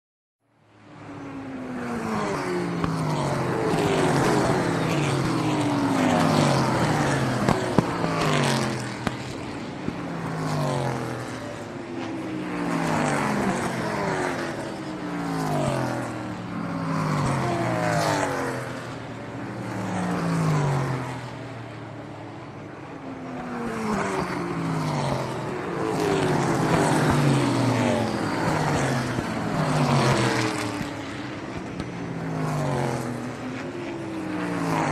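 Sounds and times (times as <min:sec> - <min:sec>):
race cars passing by: 0:00.6 - 0:34.9.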